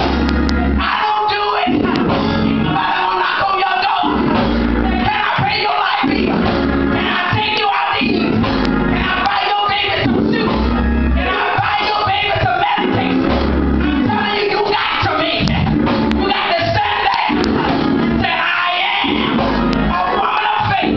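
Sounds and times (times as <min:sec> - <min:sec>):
heavy bass line: 0:00.0 - 0:20.9.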